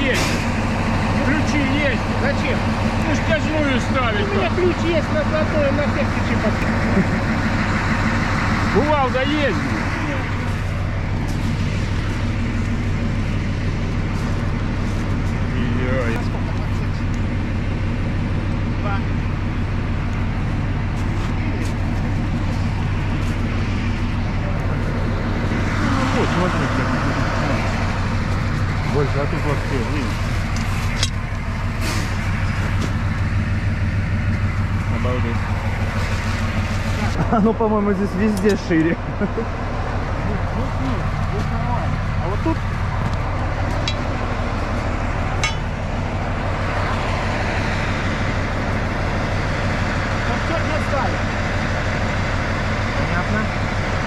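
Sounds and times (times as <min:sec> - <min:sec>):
diesel locomotive engine idling: 0:00.0 - 0:54.0.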